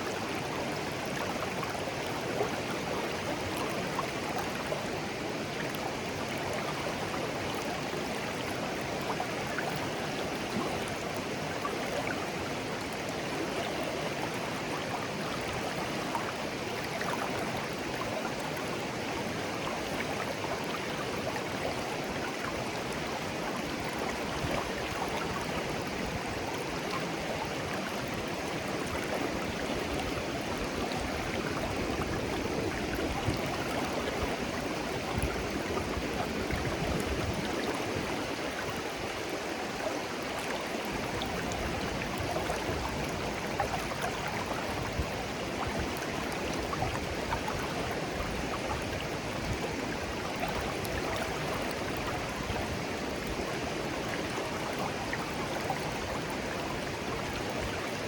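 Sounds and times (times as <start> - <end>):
stream babbling over stones: 0.0 - 58.0.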